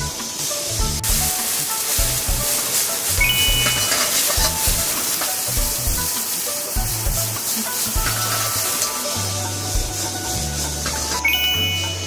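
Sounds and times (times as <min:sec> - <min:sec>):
heavy rain and rushing water: 0:00.0 - 0:12.0
music with repeating bass line: 0:00.0 - 0:12.0.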